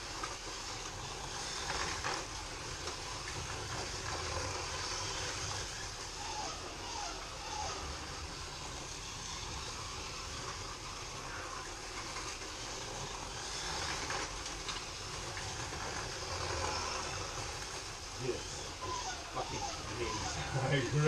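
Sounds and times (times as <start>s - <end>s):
slot car motors whirring: 0.0s - 21.0s.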